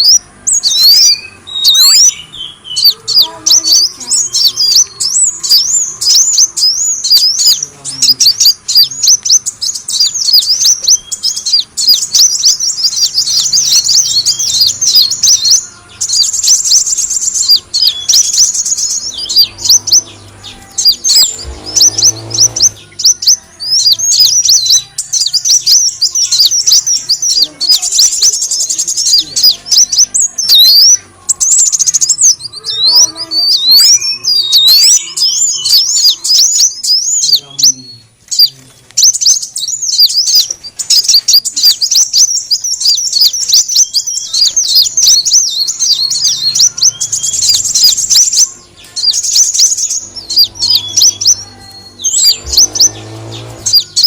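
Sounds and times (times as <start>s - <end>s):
sunbird chirping: 0.0s - 54.0s.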